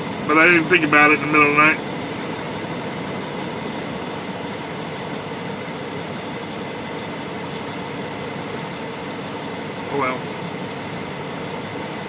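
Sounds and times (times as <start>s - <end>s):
air-conditioning fan running: 0.0s - 12.0s.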